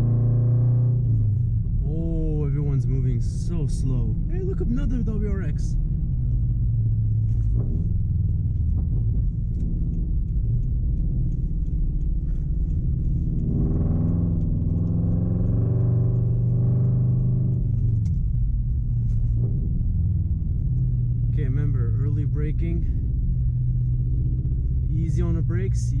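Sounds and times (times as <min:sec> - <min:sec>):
car engine accelerating: 0:00.0 - 0:26.0
tyres on snowy road: 0:00.0 - 0:26.0.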